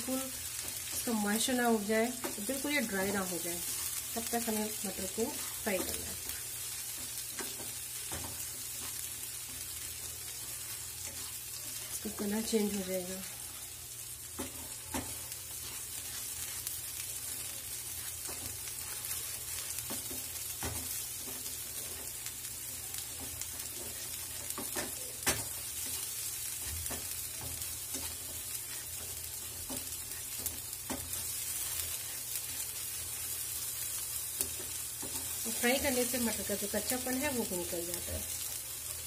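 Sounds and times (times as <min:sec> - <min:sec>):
paste sizzling in oil: 0:00.0 - 0:39.0
spatula scraping a pan: 0:02.2 - 0:12.4, 0:14.2 - 0:36.3.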